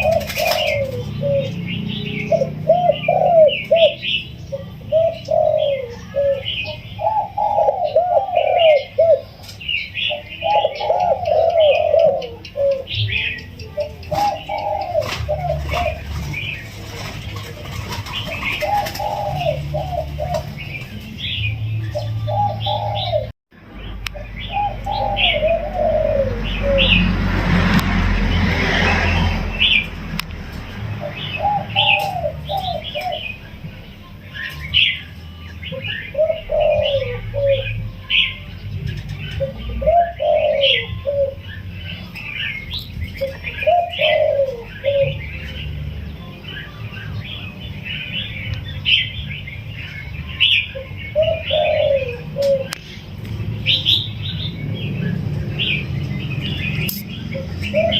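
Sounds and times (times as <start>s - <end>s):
dove cooing: 0.0s - 23.3s, 24.2s - 27.2s, 30.9s - 33.7s, 35.6s - 46.0s, 50.4s - 57.9s
small birds chirping: 0.0s - 27.2s, 28.2s - 57.9s.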